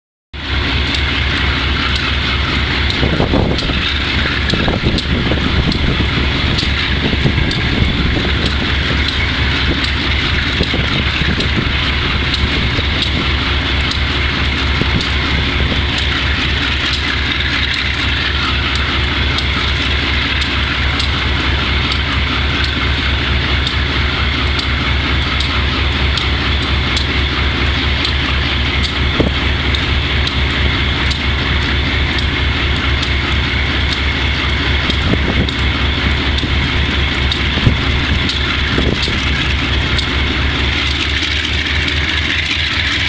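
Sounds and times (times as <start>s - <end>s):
diesel locomotive engine running: 0.3s - 43.0s.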